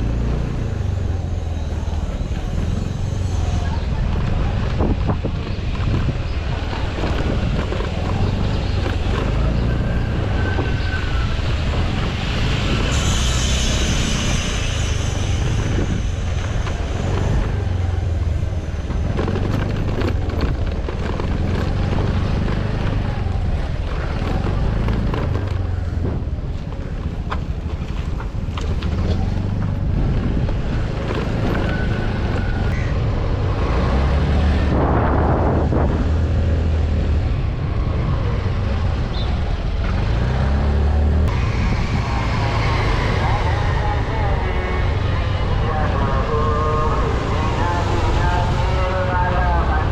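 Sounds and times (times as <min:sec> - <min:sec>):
vehicle engine running: 0:00.0 - 0:49.9
wind buffeting microphone: 0:00.0 - 0:49.9.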